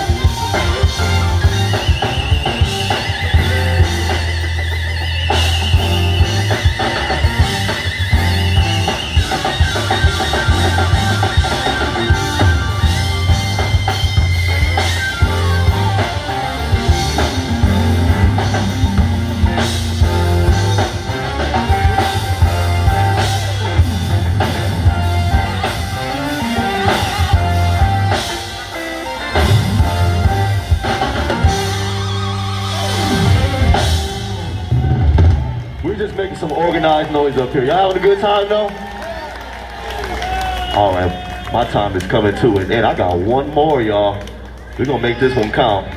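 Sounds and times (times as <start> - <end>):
live band instrumental groove: 0.0 - 45.9.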